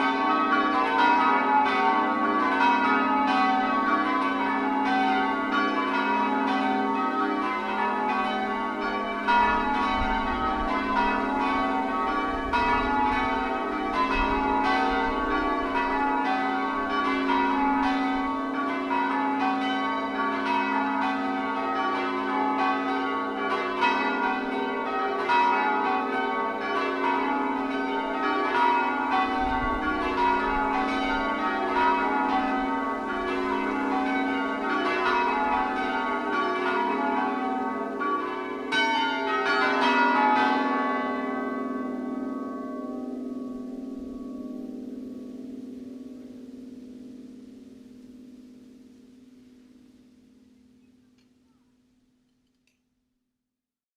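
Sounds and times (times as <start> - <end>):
church bells ringing changes: 0.0 - 50.8.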